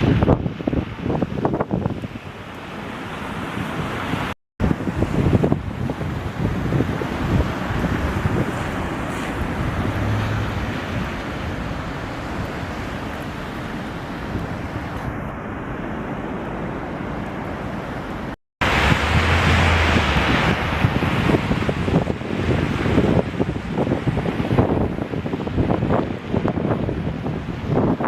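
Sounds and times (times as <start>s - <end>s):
strong wind gusting: 0.0s - 28.0s.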